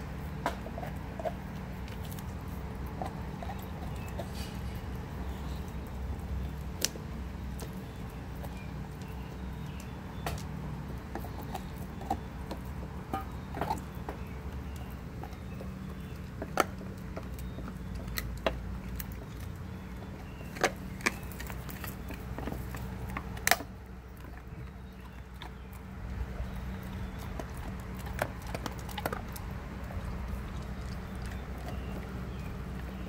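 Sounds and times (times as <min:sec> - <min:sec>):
dog licking and chewing: 0:00.1 - 0:33.0.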